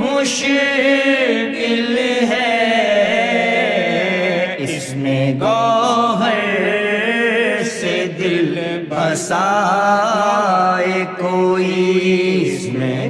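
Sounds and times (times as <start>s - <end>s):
man singing devotional poem: 0.0s - 13.0s.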